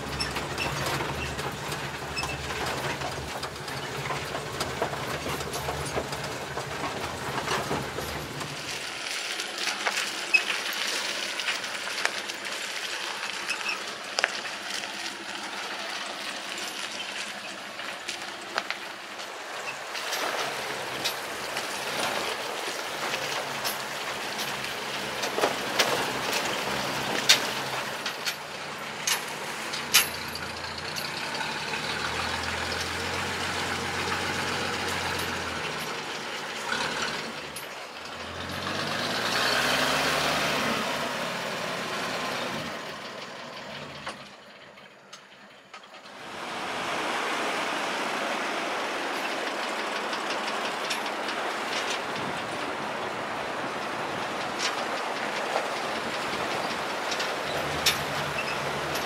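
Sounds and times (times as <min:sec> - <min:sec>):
truck bodywork rattling: 0:00.0 - 0:59.0
truck engine running: 0:00.0 - 0:59.0.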